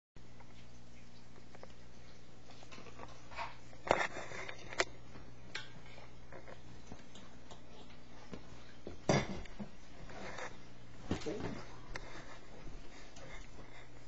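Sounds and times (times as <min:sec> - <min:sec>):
low steady hum: 0:00.2 - 0:14.0.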